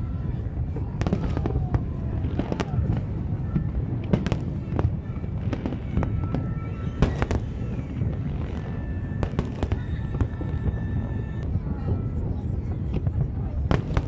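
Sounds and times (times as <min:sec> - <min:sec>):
fireworks bangs and crackling: 0:00.0 - 0:14.0
low rumble: 0:00.0 - 0:14.0.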